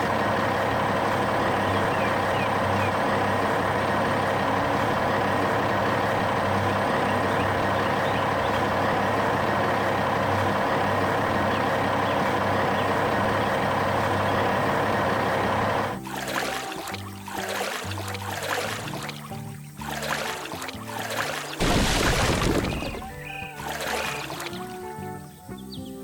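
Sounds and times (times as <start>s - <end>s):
truck engine running: 0.0s - 25.6s.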